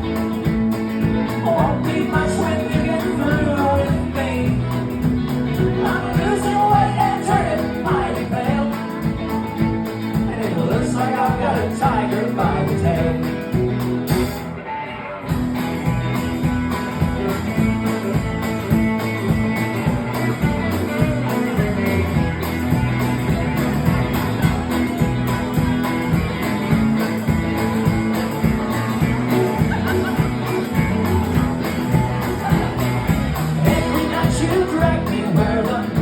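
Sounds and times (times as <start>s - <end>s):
bass: 0.0s - 36.0s
drums: 0.0s - 36.0s
guitar: 0.0s - 36.0s.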